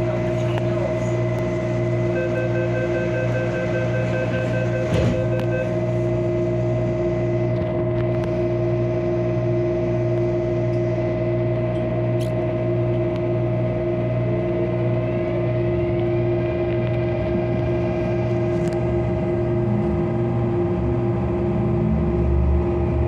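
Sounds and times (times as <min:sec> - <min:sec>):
electric train hum: 0:00.0 - 0:23.0
faint rising traction whine: 0:00.0 - 0:23.0.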